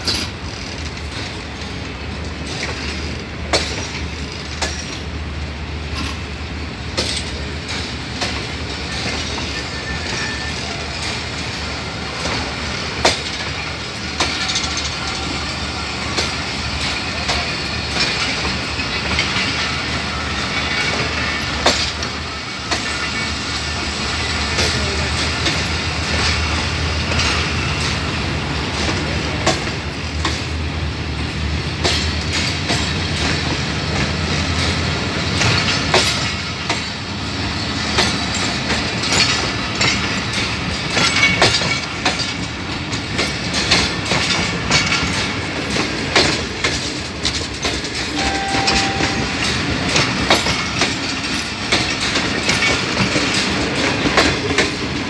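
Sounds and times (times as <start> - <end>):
train rumble: 0.0 - 55.0
train wheels clicking on rail joints: 0.0 - 55.0.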